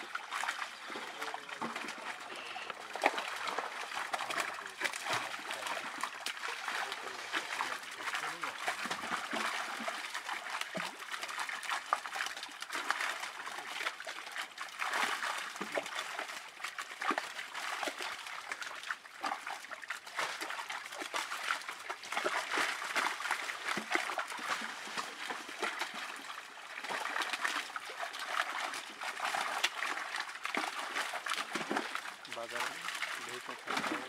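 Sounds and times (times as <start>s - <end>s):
fish splashing in water: 0.0s - 34.0s.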